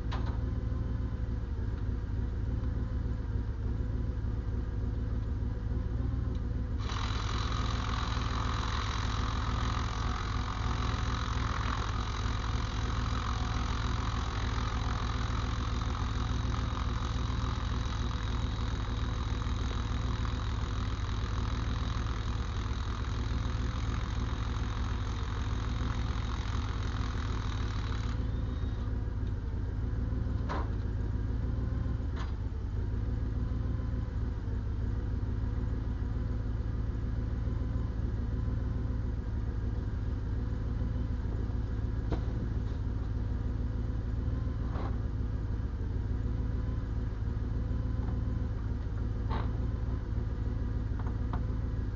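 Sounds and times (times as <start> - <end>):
diesel engine idling: 0.0 - 51.9.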